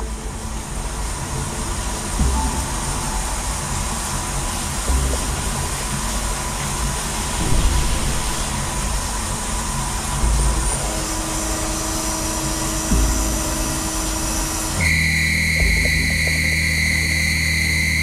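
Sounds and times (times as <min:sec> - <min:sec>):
music tones: 0:00.0 - 0:18.0
steady low hum: 0:00.0 - 0:18.0
coolant spray hissing: 0:00.3 - 0:18.0
machine running: 0:00.7 - 0:18.0.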